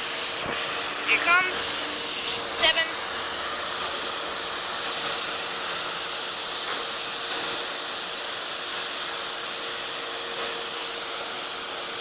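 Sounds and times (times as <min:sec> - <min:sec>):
water jets spraying: 0:00.0 - 0:12.0.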